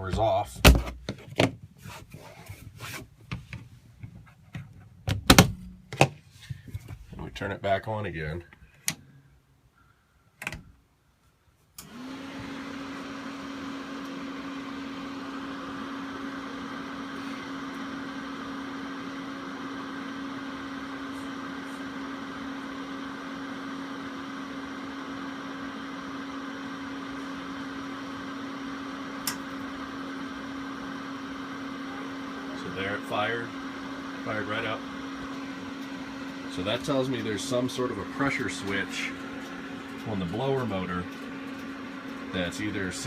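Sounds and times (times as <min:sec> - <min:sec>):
furnace blower motor humming: 0:00.0 - 0:10.8, 0:11.7 - 0:43.0.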